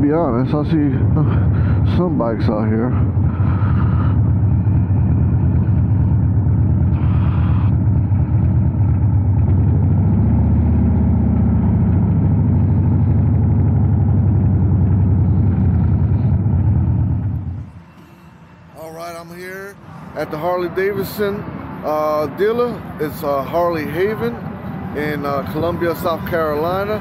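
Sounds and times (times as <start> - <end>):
motorcycle engine at low speed: 0.0 - 18.6, 20.6 - 27.0.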